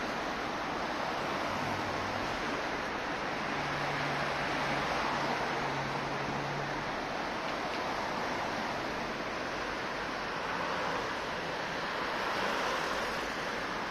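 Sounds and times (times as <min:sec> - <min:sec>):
passing cars: 0:00.0 - 0:13.9.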